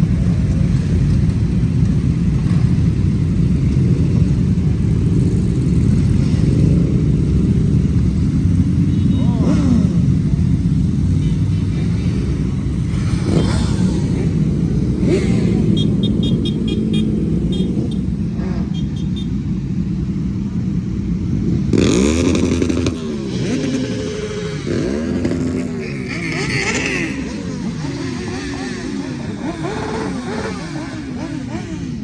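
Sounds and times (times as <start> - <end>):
motorcycles riding past: 0.0 - 32.0
steady traffic rumble: 0.0 - 32.0.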